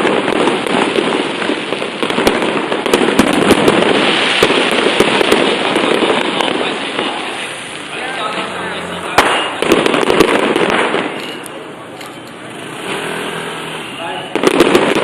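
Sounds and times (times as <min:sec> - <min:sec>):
fireworks crackling: 0:00.0 - 0:15.0
sharp firework cracks: 0:00.0 - 0:15.0.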